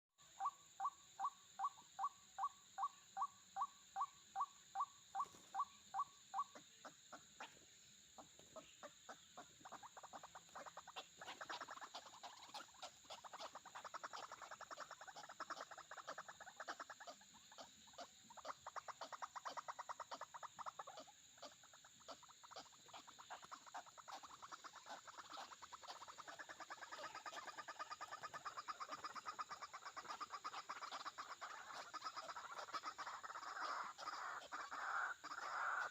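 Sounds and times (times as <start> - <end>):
waterhen calling: 0.4 - 35.9.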